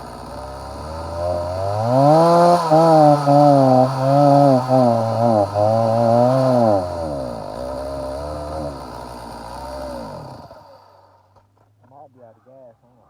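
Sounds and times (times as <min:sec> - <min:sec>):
chainsaw running at high revs: 0:00.0 - 0:11.3
chainsaw winding down: 0:00.0 - 0:11.3.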